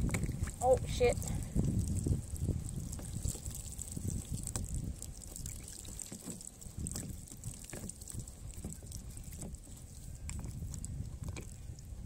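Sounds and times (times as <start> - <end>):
water pouring from drain plug: 0.0 - 12.0.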